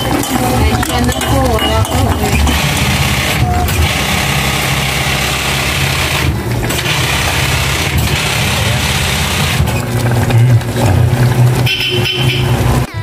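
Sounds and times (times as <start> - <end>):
gas burner hissing: 0.0 - 12.9
pot bubbling: 0.0 - 13.0.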